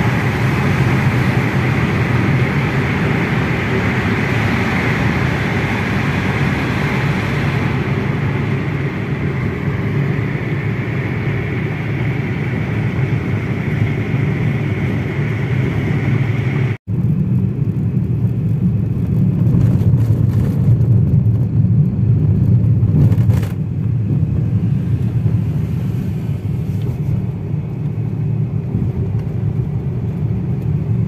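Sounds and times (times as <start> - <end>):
car road noise at highway speed: 0.0 - 31.0.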